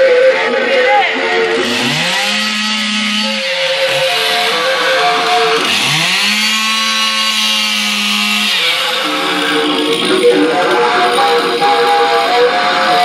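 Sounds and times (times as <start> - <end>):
chainsaw engine revving: 1.5 - 13.0.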